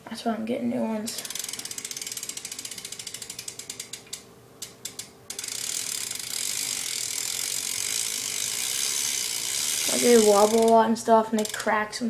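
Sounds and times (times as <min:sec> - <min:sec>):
bike ratchet clicking: 0:01.1 - 0:11.8.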